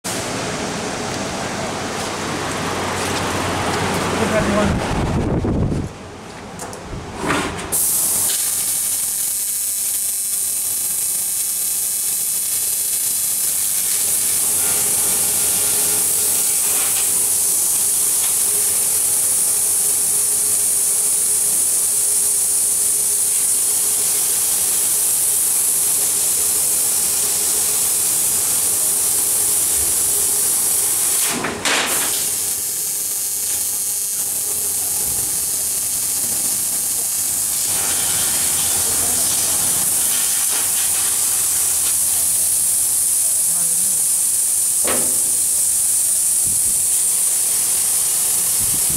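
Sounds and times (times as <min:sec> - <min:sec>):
laser cutter gas hiss: 0:07.7 - 0:48.9.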